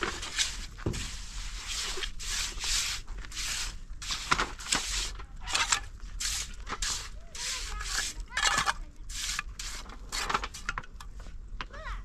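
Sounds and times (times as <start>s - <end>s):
short scraping strokes: 0.1s - 10.7s.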